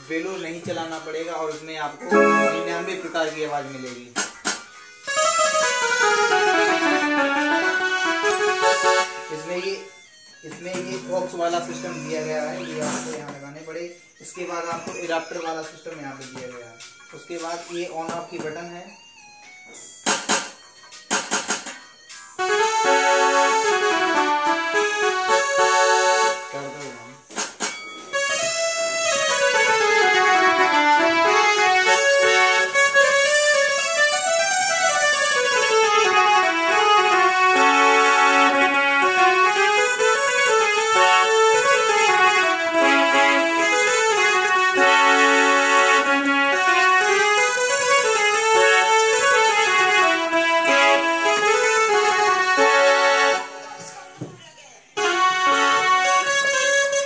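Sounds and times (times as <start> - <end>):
electronic keyboard melody: 0.0 - 54.1, 55.0 - 57.0.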